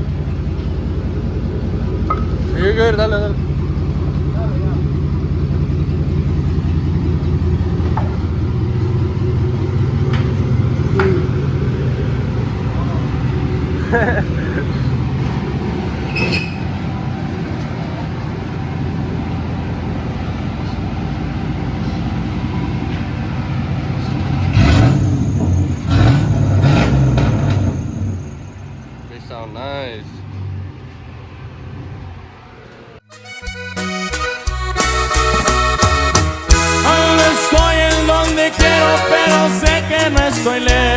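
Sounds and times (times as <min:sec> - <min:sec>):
truck engine and deep exhaust: 0:00.0 - 0:40.9.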